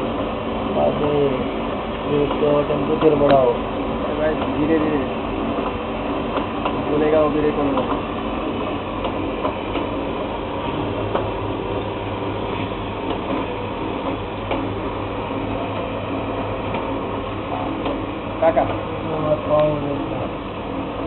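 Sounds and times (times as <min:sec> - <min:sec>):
motor and fan hum: 0:00.0 - 0:21.0.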